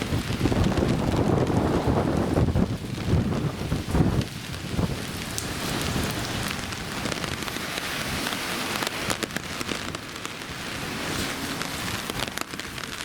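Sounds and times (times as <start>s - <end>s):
raindrops ticking on surfaces: 0.0s - 13.0s
steady rain: 0.0s - 13.0s.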